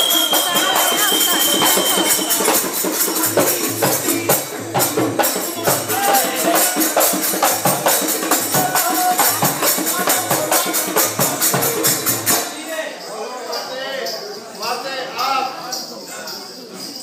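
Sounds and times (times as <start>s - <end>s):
rapid percussion beat: 0.0s - 13.7s
tambourine jingling: 0.0s - 17.0s.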